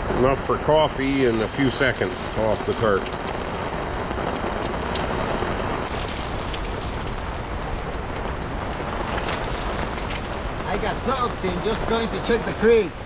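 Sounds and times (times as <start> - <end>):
heavy rain on a tarp: 0.0 - 13.0
water streaming off tarp: 0.0 - 13.0.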